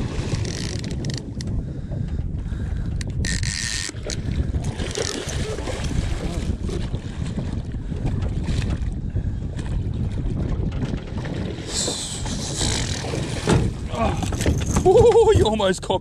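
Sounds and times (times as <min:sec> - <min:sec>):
water splashing against hull: 0:00.0 - 0:15.7
wind buffeting microphone: 0:00.0 - 0:16.0.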